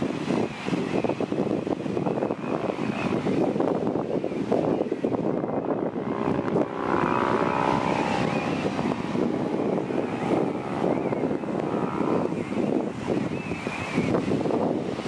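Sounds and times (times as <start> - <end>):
ocean surf: 0.0 - 15.0
wind buffeting microphone: 0.0 - 15.0
motor drone: 0.1 - 15.0
seabird calls: 2.0 - 14.2.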